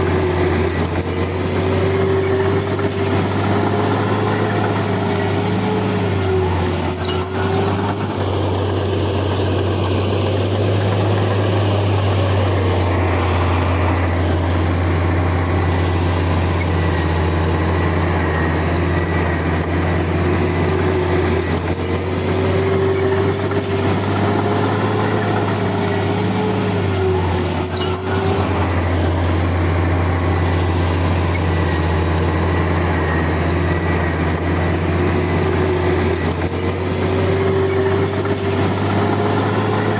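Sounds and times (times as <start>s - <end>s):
deep diesel engine drone: 0.0s - 39.9s.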